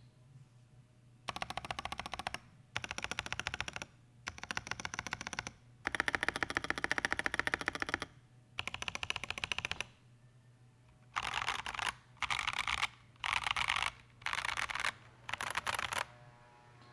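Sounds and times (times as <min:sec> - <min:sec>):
mechanical keyboard typing: 0:01.3 - 0:10.0, 0:11.1 - 0:16.1.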